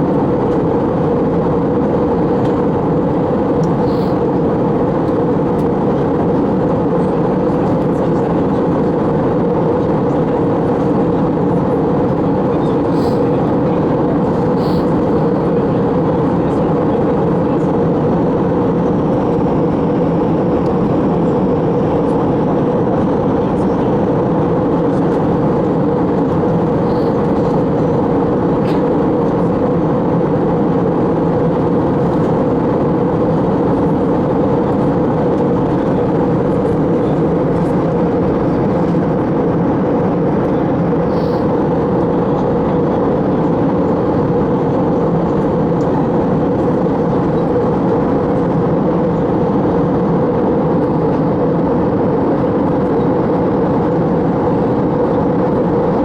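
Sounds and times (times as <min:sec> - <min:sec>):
airplane cabin engine drone: 0:00.0 - 0:56.0.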